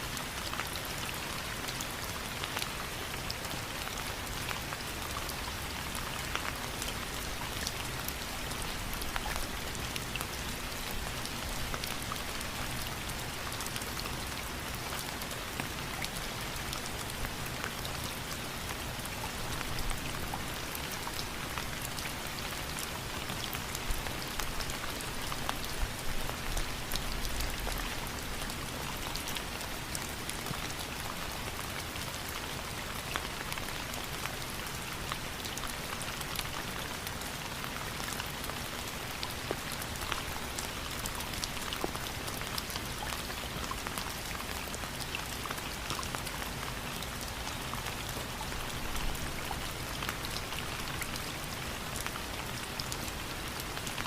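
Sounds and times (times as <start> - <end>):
raindrops ticking on a surface: 0.0 - 54.0
steady rainfall: 0.0 - 54.0.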